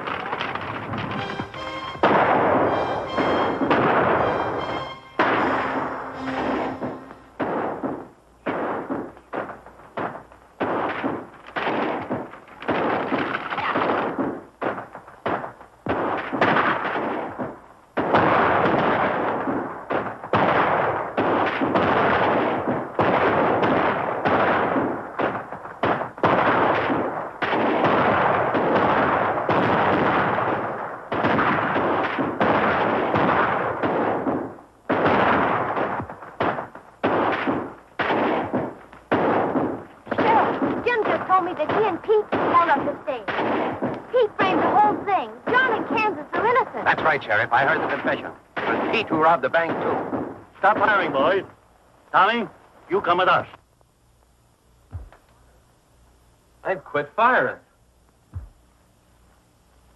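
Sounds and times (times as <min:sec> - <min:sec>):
echoing gunshots: 0:00.0 - 0:51.2.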